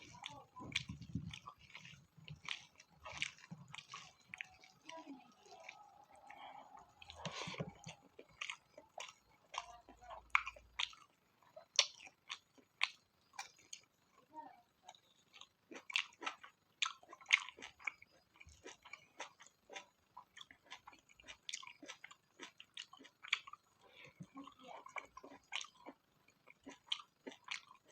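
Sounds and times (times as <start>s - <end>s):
person chewing close to microphone: 0.0s - 14.2s, 14.8s - 27.9s.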